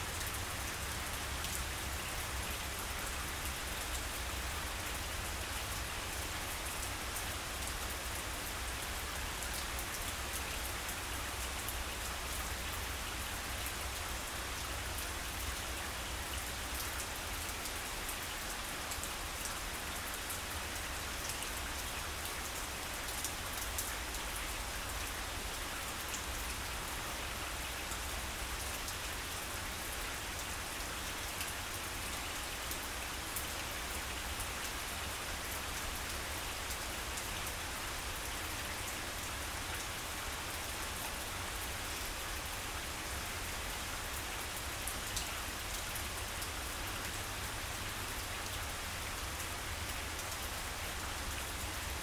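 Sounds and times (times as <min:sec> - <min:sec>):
rain falling on grass: 0:00.0 - 0:52.0.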